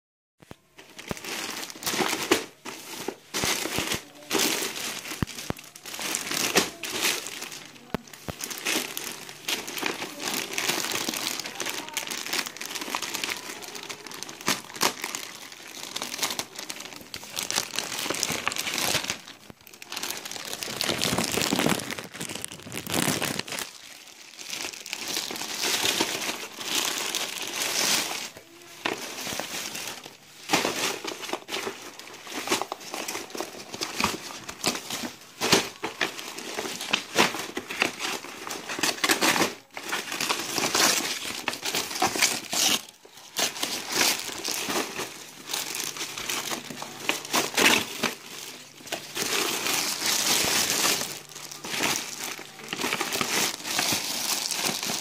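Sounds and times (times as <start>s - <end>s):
plastic wrapping crinkling: 0.4s - 55.0s.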